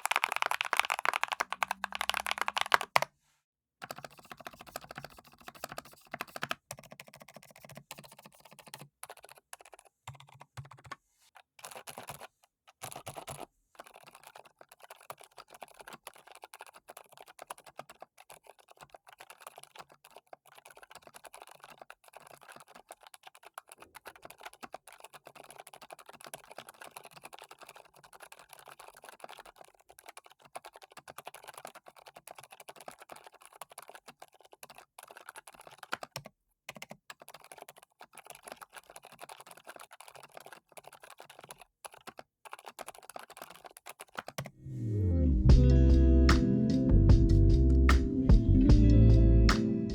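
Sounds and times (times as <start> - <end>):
mechanical keyboard typing: 0.0 - 3.1, 3.8 - 44.6.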